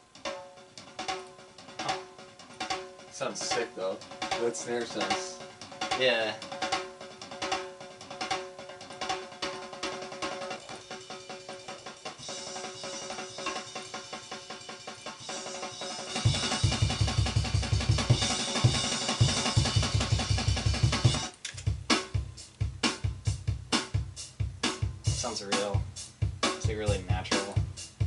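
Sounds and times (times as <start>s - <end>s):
rapid heavy bass drum strokes: 0.0s - 28.0s
snare drum: 1.0s - 10.9s, 11.6s - 28.0s.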